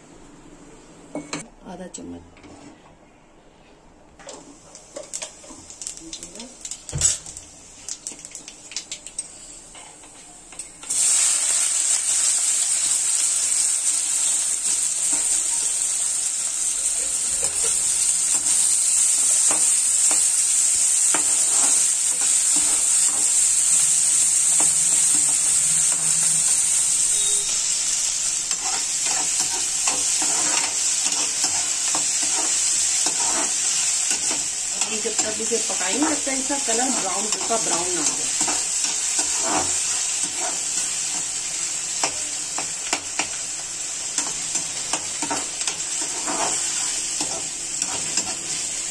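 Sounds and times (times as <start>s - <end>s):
onions sizzling in hot oil: 4.3s - 9.8s, 10.5s - 48.9s.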